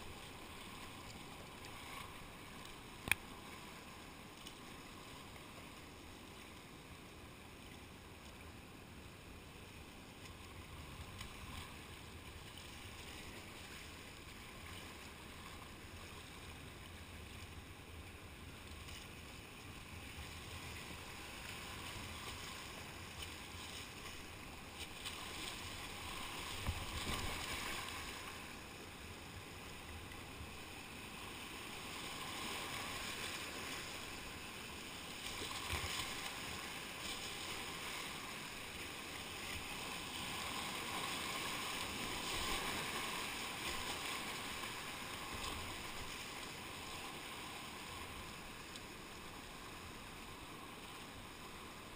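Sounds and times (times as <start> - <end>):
paddle strokes: 0.0 - 7.0, 9.9 - 51.9.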